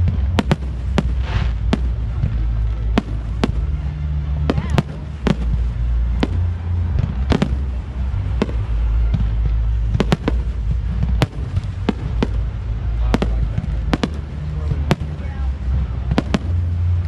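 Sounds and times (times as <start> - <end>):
fireworks bangs: 0.0 - 17.0
low rumble: 0.0 - 17.0.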